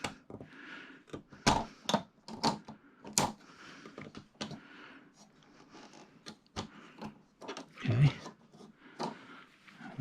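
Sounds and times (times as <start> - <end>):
plastic parts clicking and tapping: 0.0 - 4.6, 5.3 - 9.3.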